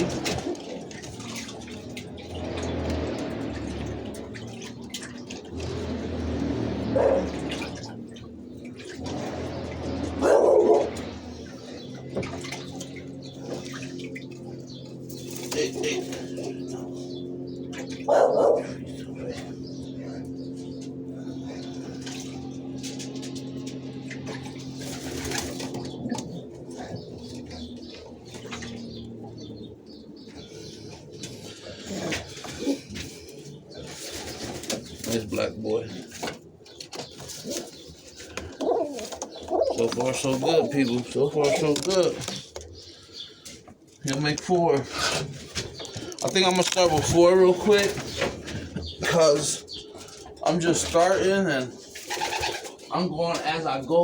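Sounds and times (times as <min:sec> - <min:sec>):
pigeons cooing: 0:00.0 - 0:54.0
rustling and clicks of birds: 0:00.0 - 0:54.0.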